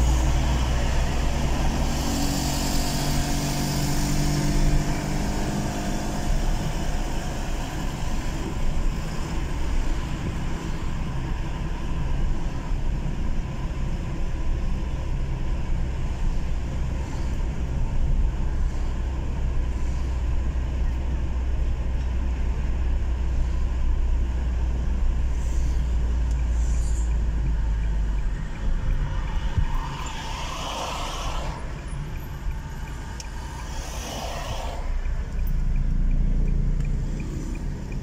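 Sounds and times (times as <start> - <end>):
car engine and tyre rumble: 0.0 - 38.0
pitched engine hum: 0.0 - 38.0.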